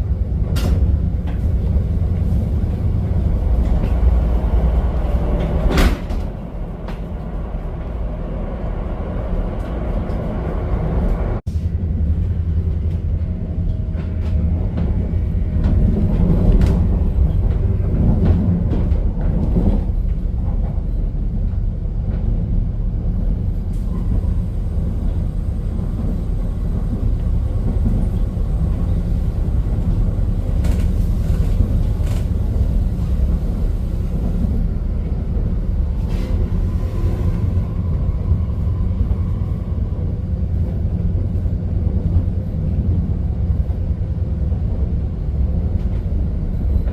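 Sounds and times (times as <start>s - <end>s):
train rumble inside carriage: 0.0s - 46.9s.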